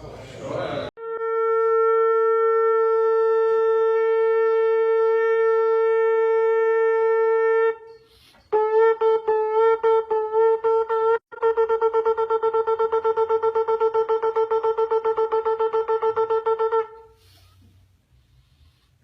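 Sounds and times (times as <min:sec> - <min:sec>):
ram's-horn trumpet blasts: 0:01.0 - 0:17.7.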